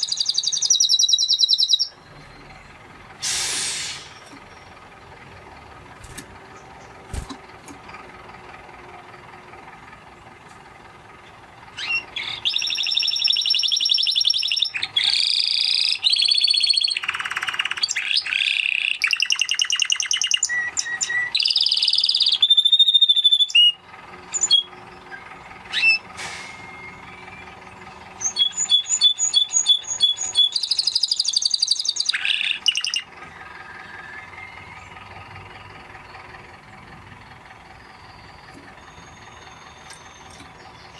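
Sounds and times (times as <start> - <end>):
canary singing trills: 0.0 - 3.0, 5.8 - 8.1, 11.7 - 36.5, 37.3 - 40.9.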